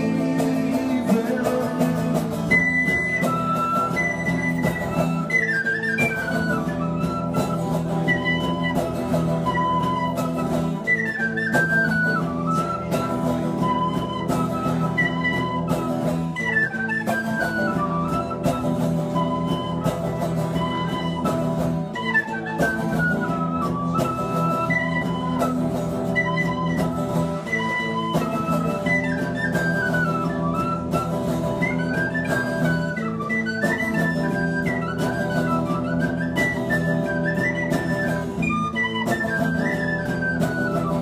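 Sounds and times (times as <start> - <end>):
strummed guitar: 0.0 - 41.0
tin whistle melody: 0.0 - 41.0.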